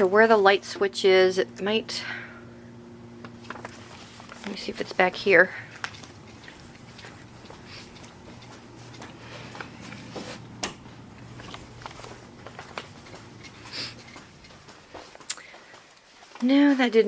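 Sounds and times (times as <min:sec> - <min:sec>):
rustling and handling: 0:03.2 - 0:17.0.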